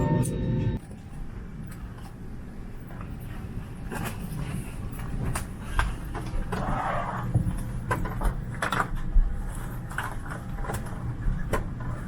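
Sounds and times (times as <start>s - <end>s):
steady low cabin hum: 0.0s - 12.0s.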